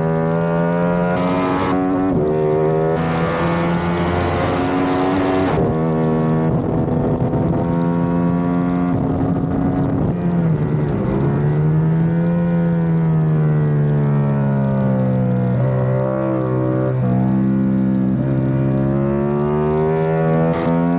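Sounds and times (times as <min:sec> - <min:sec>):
motorcycle engine at speed: 0:00.0 - 0:20.9.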